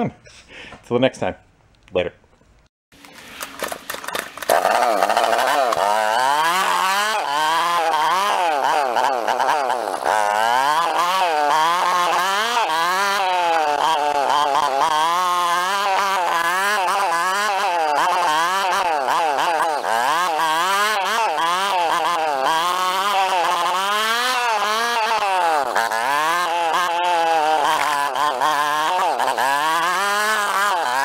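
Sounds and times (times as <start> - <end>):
small motorbike engine revving: 3.0 - 31.0.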